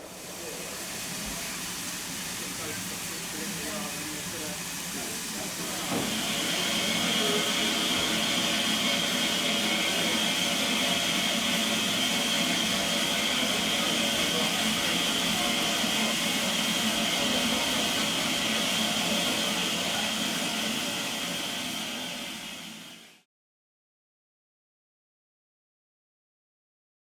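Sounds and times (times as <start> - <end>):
steam hissing: 0.0 - 23.2.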